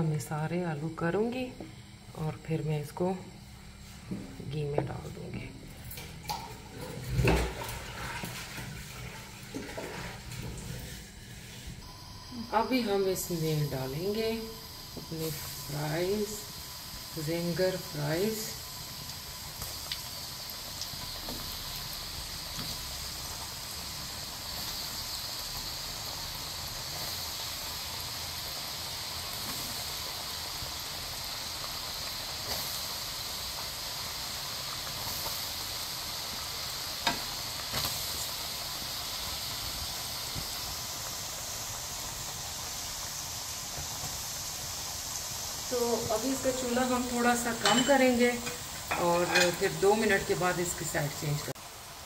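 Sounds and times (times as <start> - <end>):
fat sizzling and bubbling: 0.0 - 52.0.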